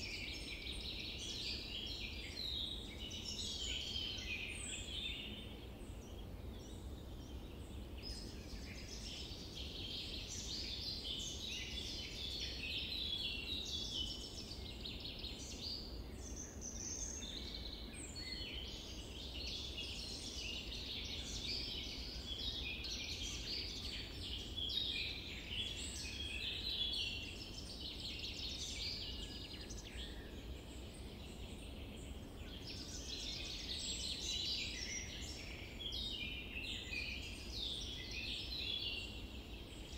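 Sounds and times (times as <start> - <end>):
faint background hiss: 0.0 - 39.9
songbirds chirping and trilling: 0.0 - 39.9.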